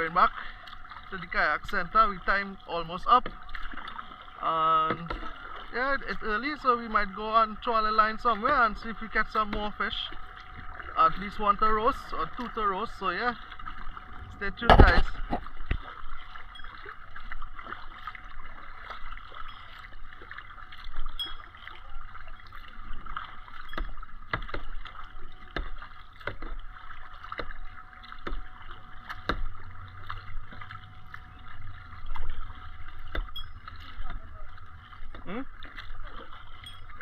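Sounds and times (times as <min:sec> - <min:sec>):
water splashing from paddle strokes: 0:00.0 - 0:37.0.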